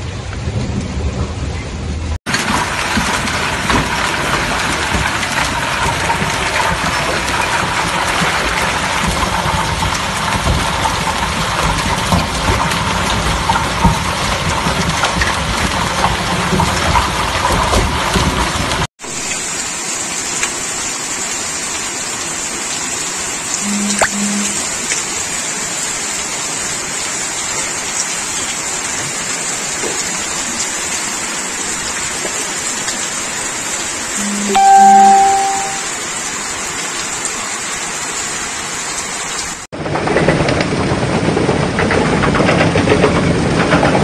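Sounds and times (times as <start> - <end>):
hail and rain falling: 2.3 - 23.6, 24.6 - 34.2, 36.0 - 44.0.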